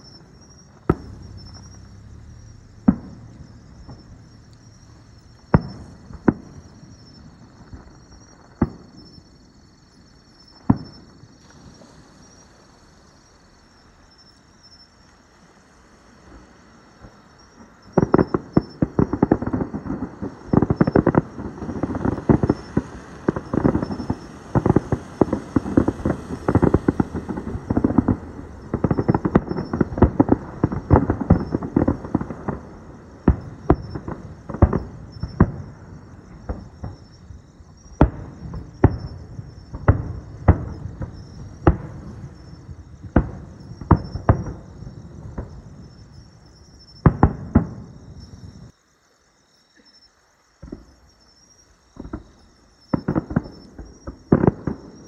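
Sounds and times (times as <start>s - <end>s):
fireworks booming and crackling: 0.0s - 48.8s, 50.6s - 55.0s.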